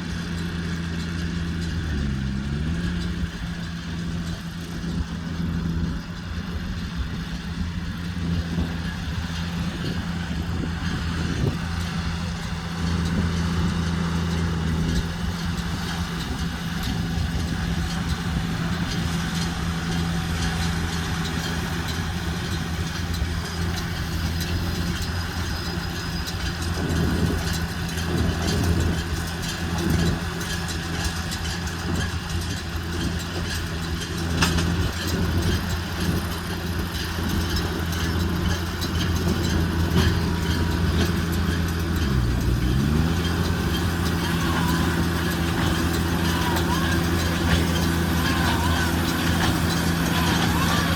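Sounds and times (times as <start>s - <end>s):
baler machinery noise: 0.0s - 50.9s
tractor engine under load: 0.0s - 50.9s.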